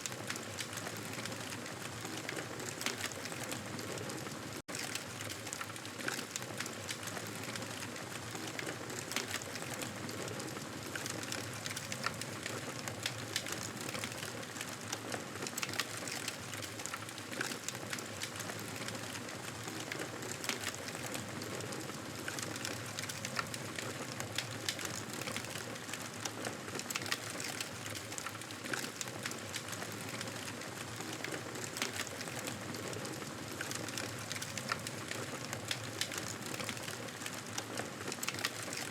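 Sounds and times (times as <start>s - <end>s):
wood fire crackling: 0.0s - 38.9s
fire popping and snapping: 4.7s - 38.9s.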